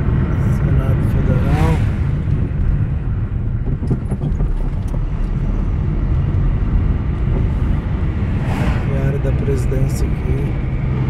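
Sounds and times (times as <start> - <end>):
vehicle wind and road noise: 0.0 - 11.0.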